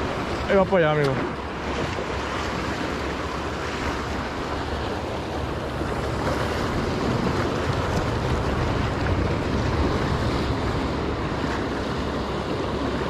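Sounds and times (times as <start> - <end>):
surf washing against rocks: 0.0 - 13.0
wind on microphone: 0.0 - 13.0.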